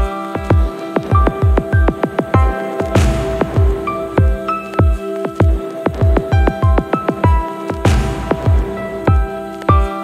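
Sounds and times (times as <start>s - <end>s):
electronic music: 0.0s - 10.0s
kick drum beat: 0.0s - 10.0s.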